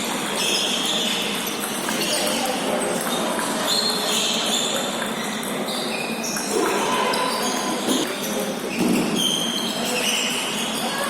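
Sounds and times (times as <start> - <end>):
murmur of voices: 0.0 - 11.0
shoes squeaking on floor: 0.0 - 11.0.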